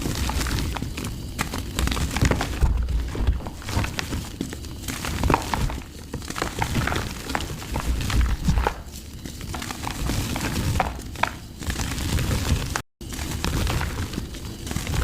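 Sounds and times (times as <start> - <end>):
dry mud crumbling and cracking: 0.0 - 15.0.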